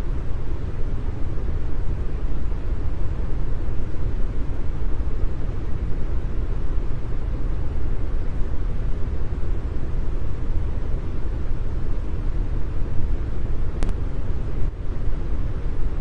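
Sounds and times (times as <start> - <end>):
brown noise hiss: 0.0 - 16.0.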